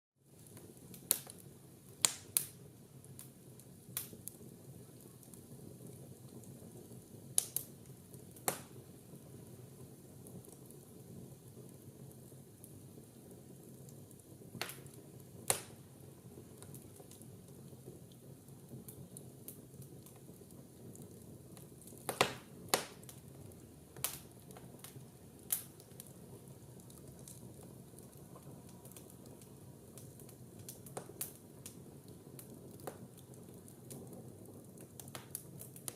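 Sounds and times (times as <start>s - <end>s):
logs crackling and popping: 0.3s - 35.9s
low rush of flames: 0.3s - 35.9s.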